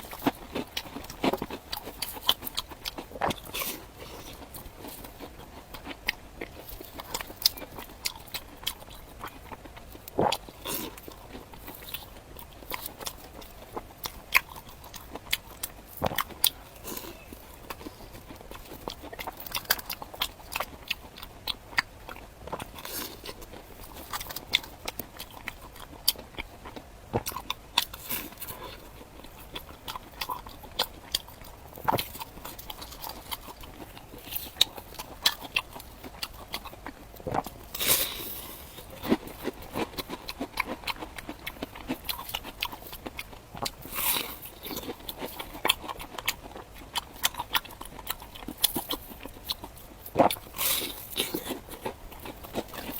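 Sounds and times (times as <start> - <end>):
crunchy food chewing: 0.0 - 52.9.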